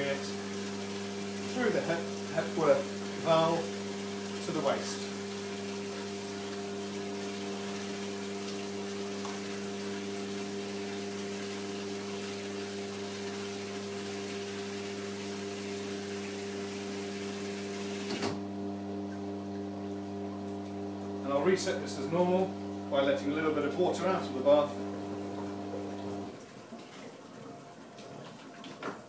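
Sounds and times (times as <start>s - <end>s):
water running into bath: 0.0s - 29.0s.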